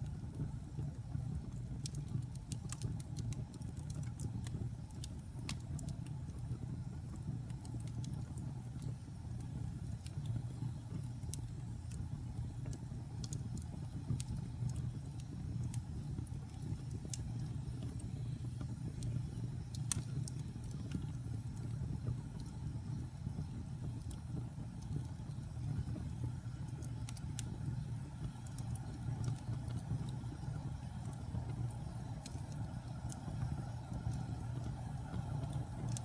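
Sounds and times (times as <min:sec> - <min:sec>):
fire crackles and pops: 0:00.0 - 0:36.0
fire rumbling in a fireplace: 0:00.0 - 0:36.0.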